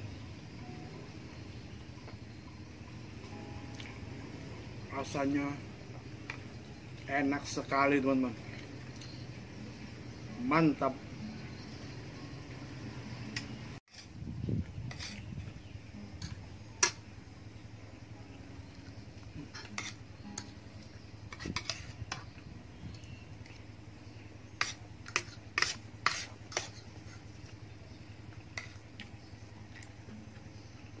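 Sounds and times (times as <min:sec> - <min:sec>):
low hum: 0:00.0 - 0:25.5.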